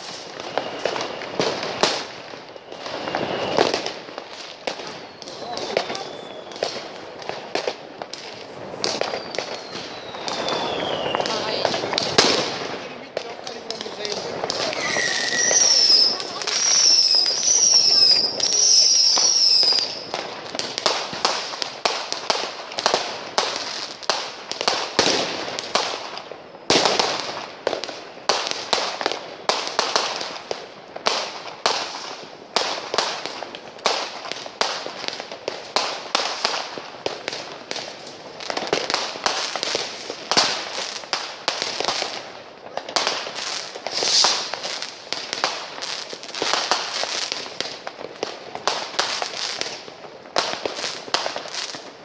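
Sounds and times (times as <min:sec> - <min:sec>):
firecracker and rocket bangs: 0:00.0 - 0:52.0
whistling fireworks: 0:00.0 - 0:52.0.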